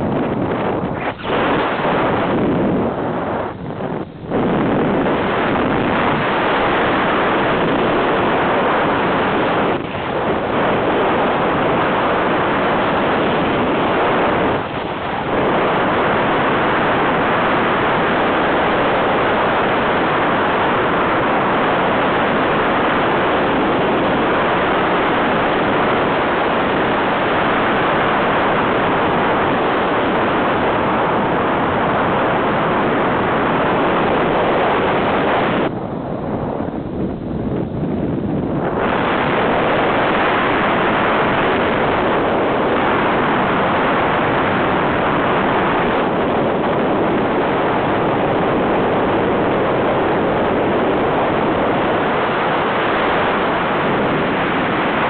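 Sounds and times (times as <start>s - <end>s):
wind roaring over microphone: 0.0s - 55.0s.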